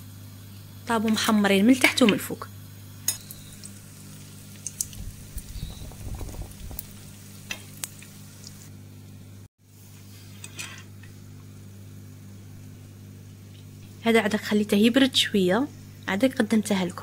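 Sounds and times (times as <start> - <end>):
pastry frying in hot oil: 0.1 - 16.9.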